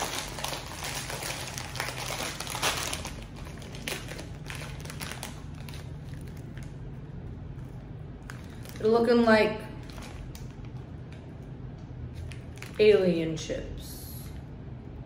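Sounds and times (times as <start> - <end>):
plastic snack bag crinkling: 0.0 - 11.5, 12.1 - 13.2.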